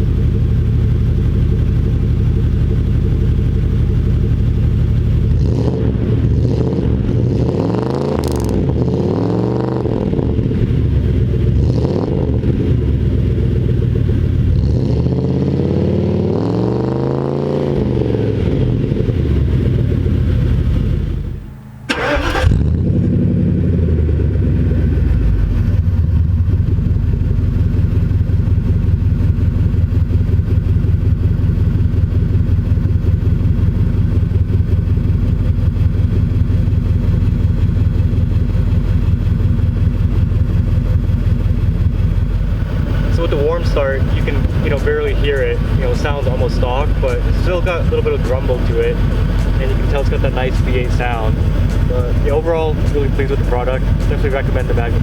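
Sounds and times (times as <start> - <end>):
car engine starting and idling: 0.0 - 55.0
car exhaust grumble revving: 0.0 - 55.0.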